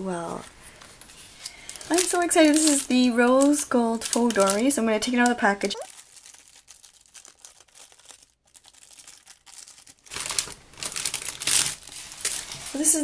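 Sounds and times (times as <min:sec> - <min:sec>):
plastic bag rustling and crinkling: 0:00.7 - 0:13.0.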